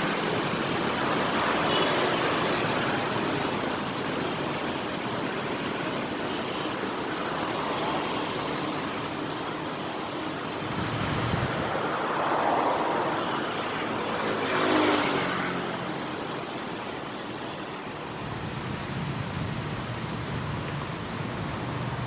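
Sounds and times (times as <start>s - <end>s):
vehicles passing close by: 0.0s - 22.0s.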